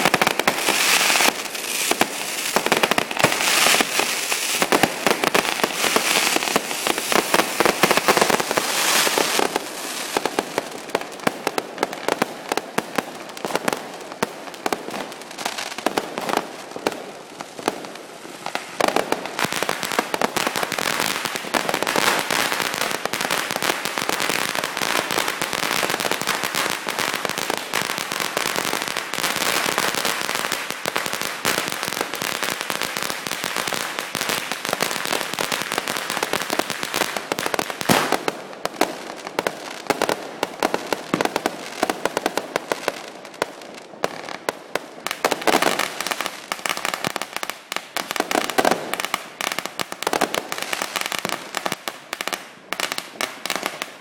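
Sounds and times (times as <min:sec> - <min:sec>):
fireworks popping and crackling: 0:00.0 - 0:54.0.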